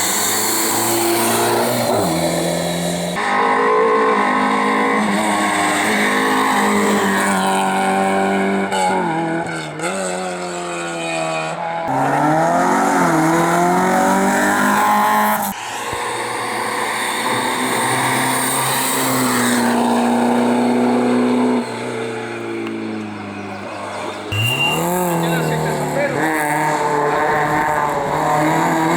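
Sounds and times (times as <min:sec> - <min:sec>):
race car engines revving: 0:00.0 - 0:28.9.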